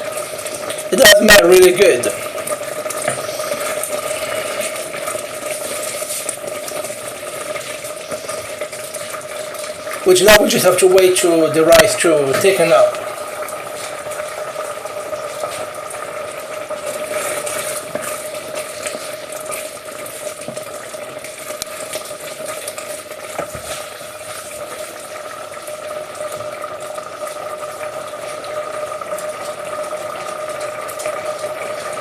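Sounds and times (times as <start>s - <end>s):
risotto bubbling in a pan: 0.0s - 32.0s
small crackles: 0.0s - 32.0s.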